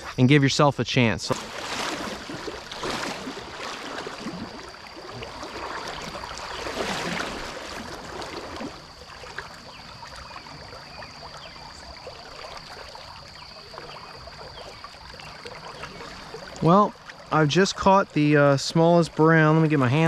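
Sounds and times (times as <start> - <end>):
stream running over rocks: 1.3 - 20.0.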